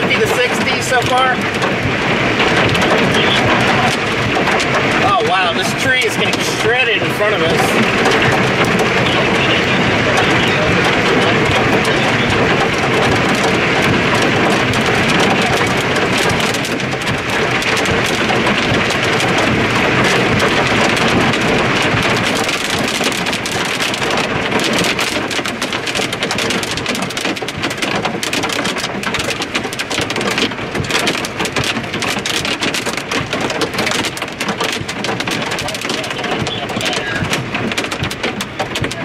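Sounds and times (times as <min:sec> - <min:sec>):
rain hissing in strong wind: 0:00.0 - 0:39.0
sharp hail impacts: 0:00.0 - 0:39.0.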